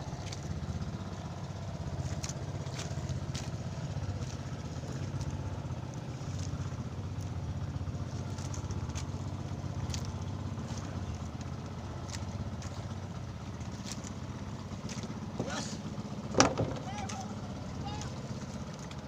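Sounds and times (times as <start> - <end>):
boat engine droning: 0.0 - 19.0
water splashes: 0.0 - 19.0.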